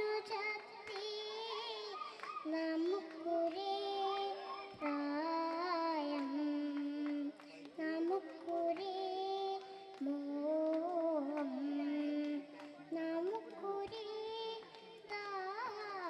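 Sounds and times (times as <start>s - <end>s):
girl singing into a microphone: 0.0s - 16.0s.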